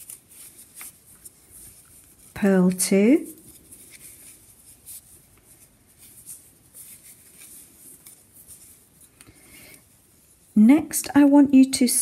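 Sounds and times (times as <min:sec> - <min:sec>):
yarn rustling on knitting needles: 0:00.0 - 0:12.0.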